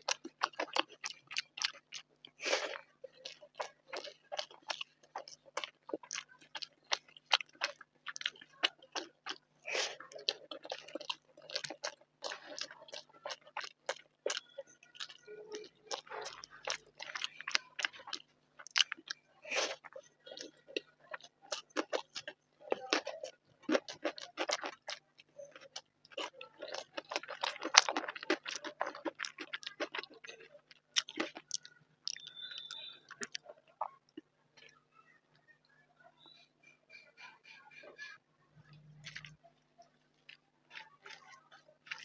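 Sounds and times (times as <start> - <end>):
person chewing food: 0.0 - 34.8, 36.9 - 42.0.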